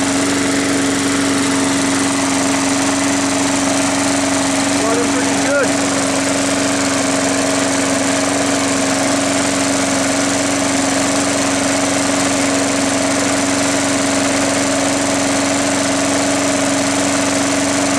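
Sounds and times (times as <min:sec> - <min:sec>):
lawnmower engine running: 0:00.0 - 0:17.9.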